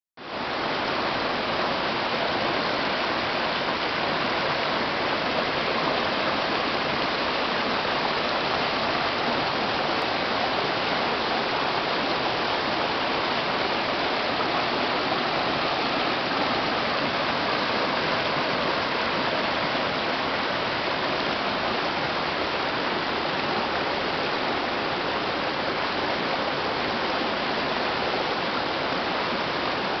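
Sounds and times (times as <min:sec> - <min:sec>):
river water flowing: 0:00.2 - 0:30.0.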